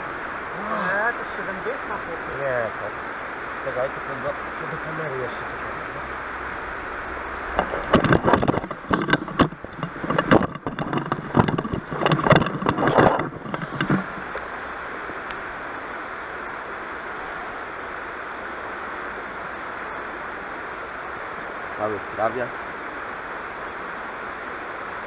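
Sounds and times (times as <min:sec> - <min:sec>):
river running over stones: 0:00.0 - 0:25.0.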